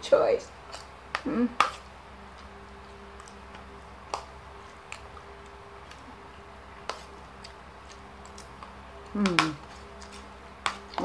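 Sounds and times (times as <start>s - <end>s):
steady low hum: 0.0s - 11.0s
person chewing food: 0.6s - 11.0s.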